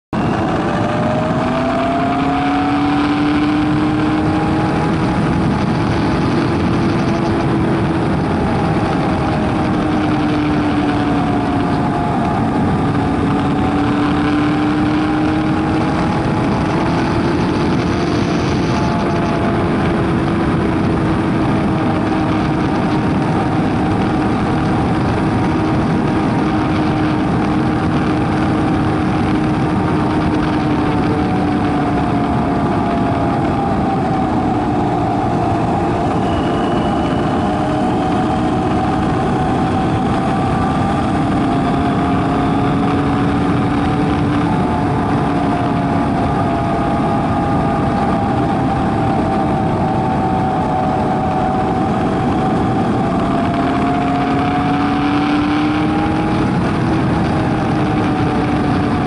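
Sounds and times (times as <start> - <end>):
motorcycle engine cruising: 0.1 - 59.0
wind and road noise: 0.1 - 59.0.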